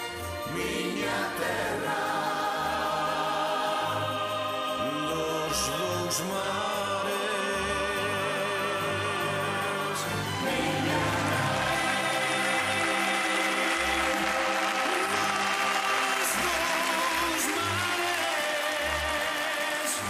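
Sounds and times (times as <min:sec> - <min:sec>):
group of singers singing: 0:00.3 - 0:20.0.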